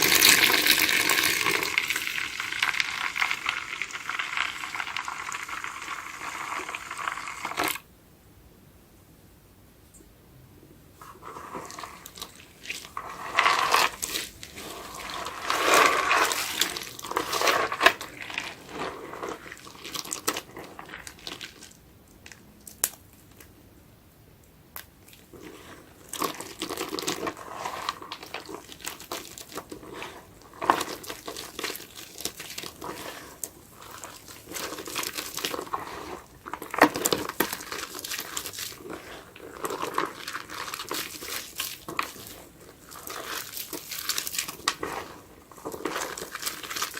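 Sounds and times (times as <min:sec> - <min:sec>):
soapy sponge squeezing: 0:00.0 - 0:07.8, 0:11.0 - 0:21.8, 0:25.0 - 0:46.9.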